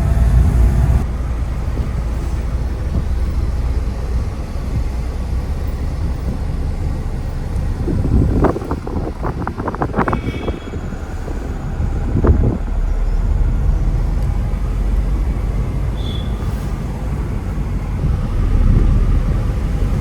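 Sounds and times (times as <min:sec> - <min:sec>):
vehicle driving rumble: 0:00.0 - 0:20.0.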